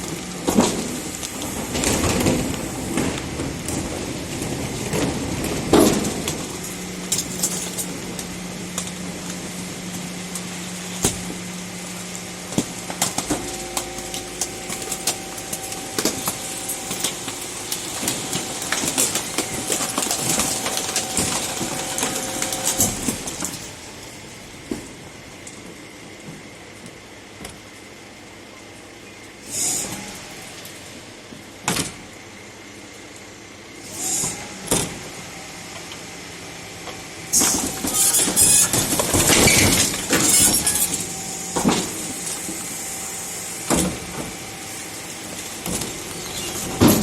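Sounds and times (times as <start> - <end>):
garbage truck hum and whine: 0.0 - 47.0.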